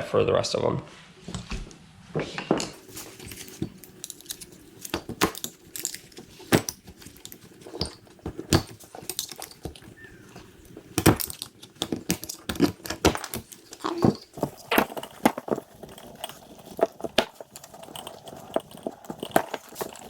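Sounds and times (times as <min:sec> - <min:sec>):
light metallic rattles: 0:02.7 - 0:20.0.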